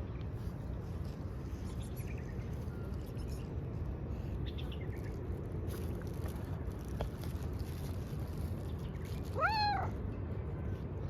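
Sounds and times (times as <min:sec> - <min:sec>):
low city street rumble: 0:00.0 - 0:11.0.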